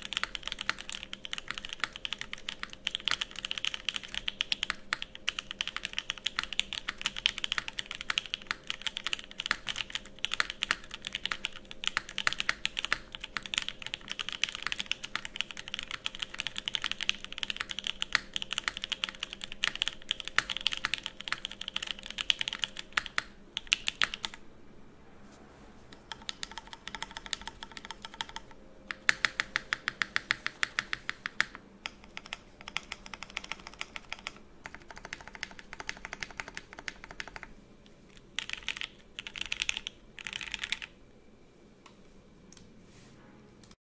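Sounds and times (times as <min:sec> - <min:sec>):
mechanical keyboard typing clacks: 0:00.0 - 0:24.4, 0:26.1 - 0:37.5, 0:38.4 - 0:40.9.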